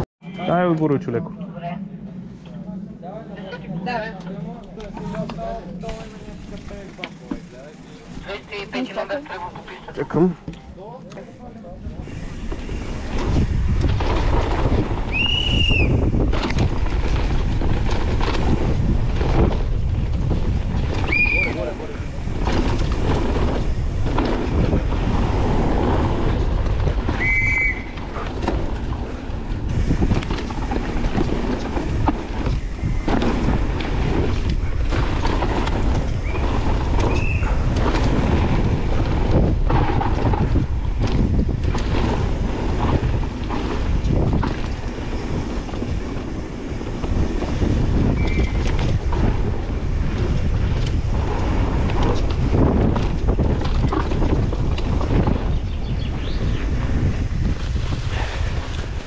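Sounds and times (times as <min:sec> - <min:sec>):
bike rattling over bumps: 0:04.2 - 0:59.0
wind on microphone: 0:11.4 - 0:59.0.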